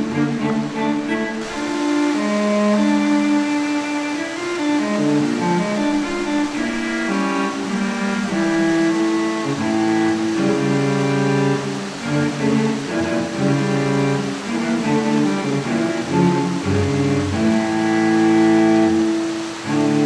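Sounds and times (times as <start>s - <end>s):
bowed strings music: 0.0s - 20.0s.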